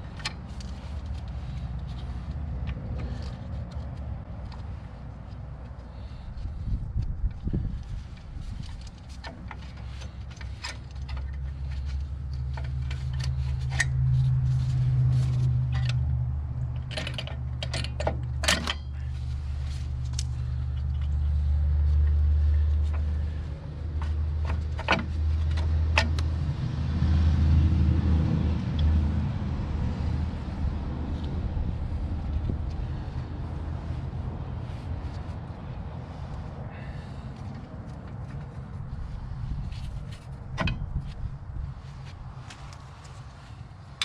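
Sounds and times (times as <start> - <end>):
low steady rumble: 0.0 - 44.0.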